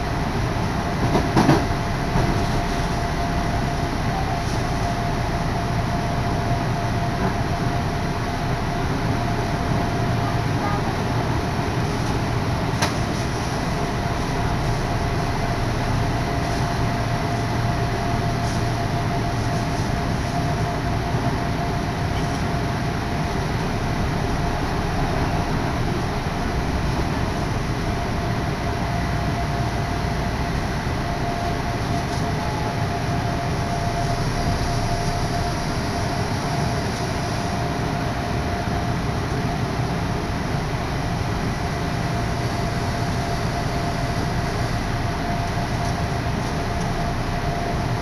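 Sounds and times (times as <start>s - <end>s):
train interior rumble: 0.0s - 48.0s.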